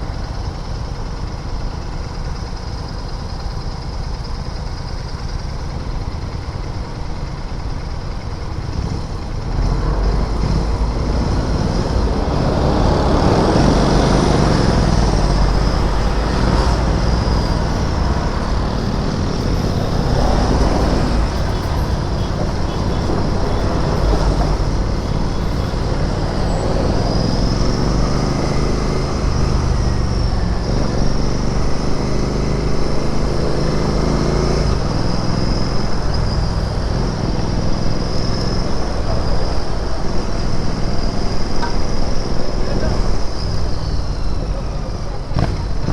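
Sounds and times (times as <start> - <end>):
traffic noise: 0.0 - 45.9
motorcycle engine revving: 8.6 - 45.9.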